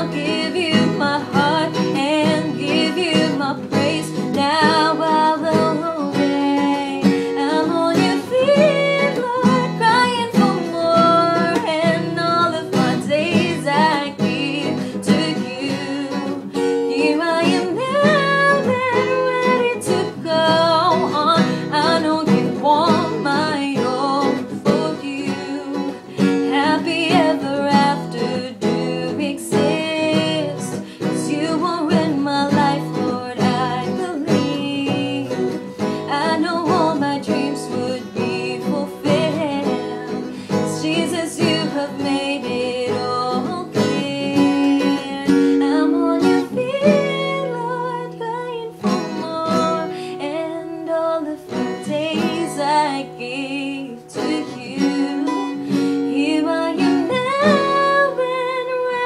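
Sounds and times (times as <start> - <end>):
person singing: 0.0 - 59.0
strummed acoustic guitar: 0.0 - 59.0.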